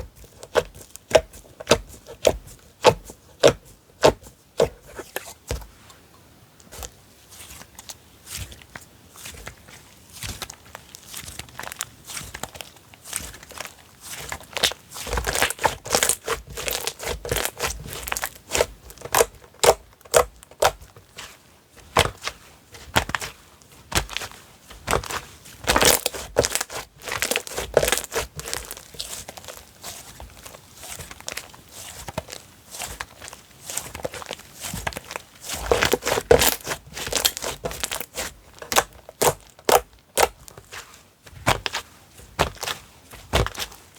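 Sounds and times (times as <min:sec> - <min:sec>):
hands squishing slime: 0:00.0 - 0:05.6, 0:06.6 - 0:43.9.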